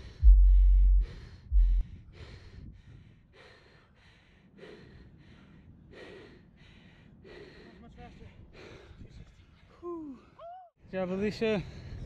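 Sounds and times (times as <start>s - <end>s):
person panting: 0.0s - 10.3s.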